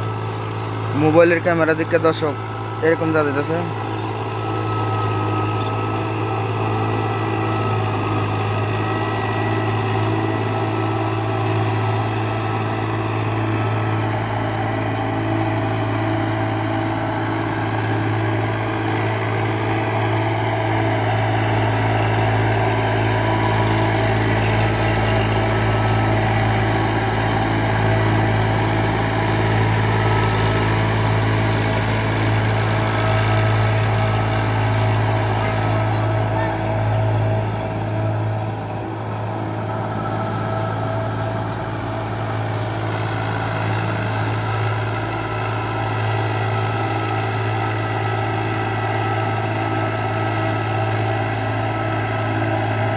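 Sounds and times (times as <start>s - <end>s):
tractor diesel engine drone: 0.0s - 52.9s.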